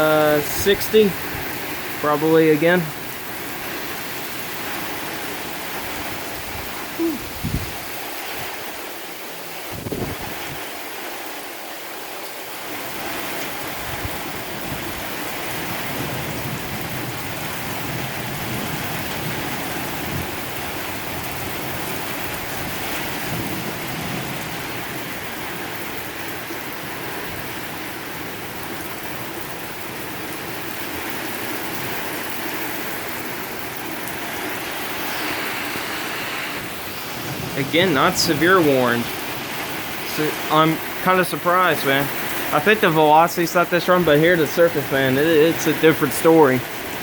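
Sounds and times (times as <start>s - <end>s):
gusting wind: 0.0s - 11.6s, 12.6s - 47.0s
heavy rain pouring: 0.0s - 47.0s.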